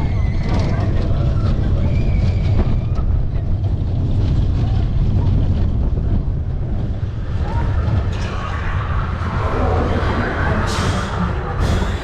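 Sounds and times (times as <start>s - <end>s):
roller coaster rumbling on track: 0.0s - 12.0s
wind buffeting microphone: 0.0s - 12.0s.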